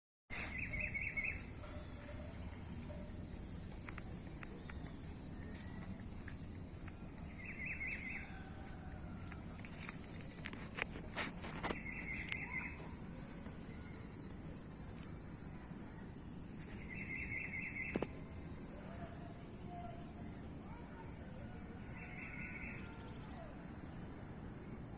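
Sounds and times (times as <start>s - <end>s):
insects chirping: 0.3s - 24.9s.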